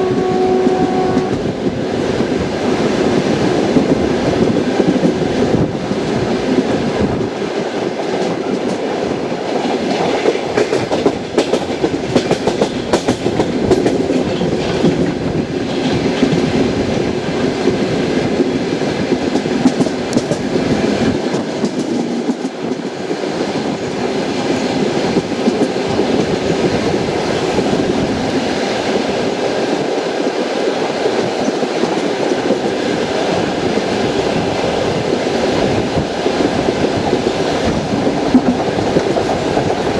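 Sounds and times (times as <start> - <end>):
train wheels rumbling on rails: 0.0 - 39.9
wheels clacking over rail joints: 2.2 - 39.9.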